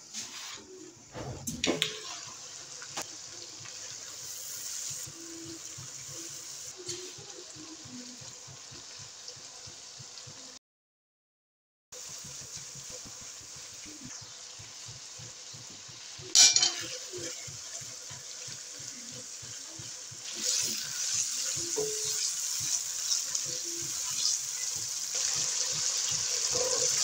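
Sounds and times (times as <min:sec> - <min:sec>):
masala sizzling in hot oil: 0:01.8 - 0:10.6, 0:12.0 - 0:27.0.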